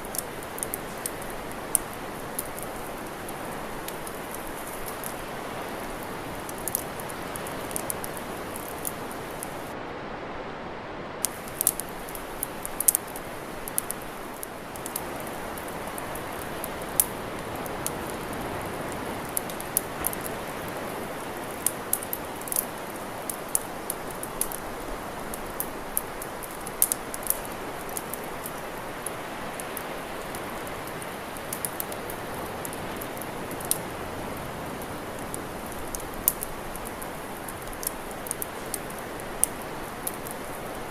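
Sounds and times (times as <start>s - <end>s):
campfire crackling: 0.0s - 9.8s, 11.2s - 40.9s.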